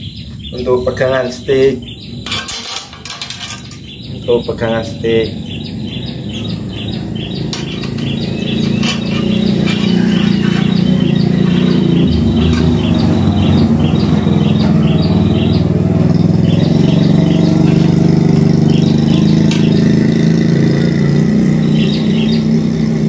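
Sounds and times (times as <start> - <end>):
bird chirping: 0.0 - 23.0
motor engine droning: 1.8 - 23.0.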